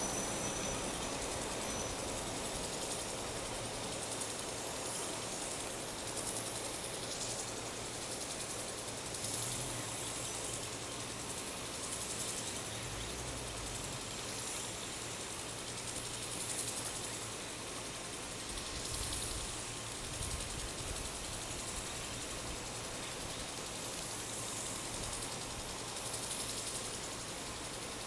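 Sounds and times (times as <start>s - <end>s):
high insect buzz: 0.0s - 28.0s.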